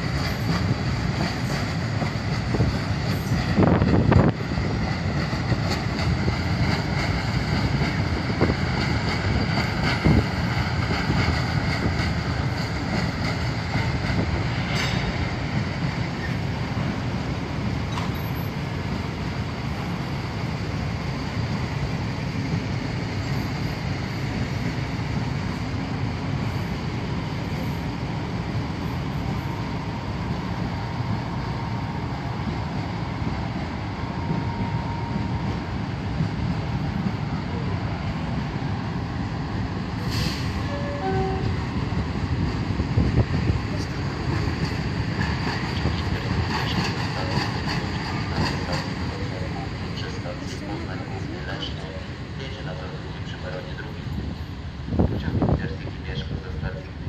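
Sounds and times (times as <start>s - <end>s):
track machine engine rumbling: 0.0s - 57.0s
trains rumbling: 0.0s - 57.0s.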